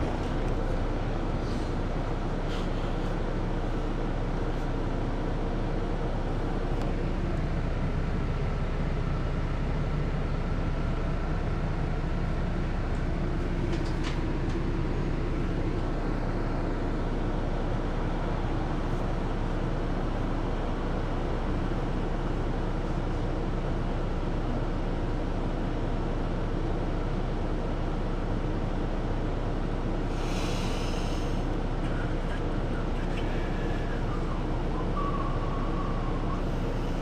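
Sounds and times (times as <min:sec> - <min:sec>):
bus engine idling: 0:00.0 - 0:37.0.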